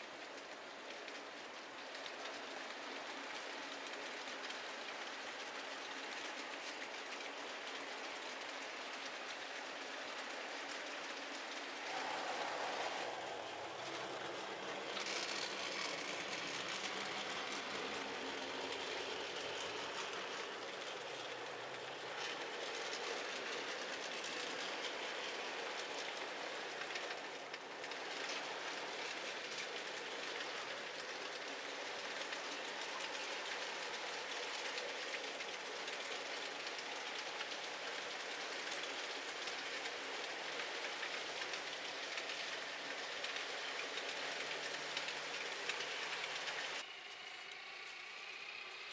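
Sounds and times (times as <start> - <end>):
model train wheels rolling: 0.0 - 48.9.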